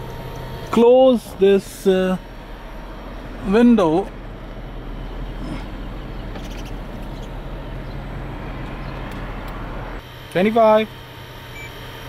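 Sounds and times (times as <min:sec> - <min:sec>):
air conditioner fan humming: 0:00.0 - 0:12.0
car engine idling: 0:00.0 - 0:12.0.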